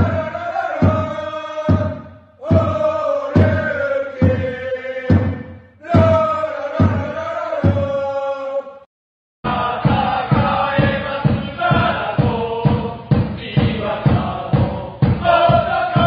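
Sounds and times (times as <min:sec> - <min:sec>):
steady drum beat: 0:00.0 - 0:08.2, 0:09.5 - 0:16.0
crowd chanting in unison: 0:00.0 - 0:16.0.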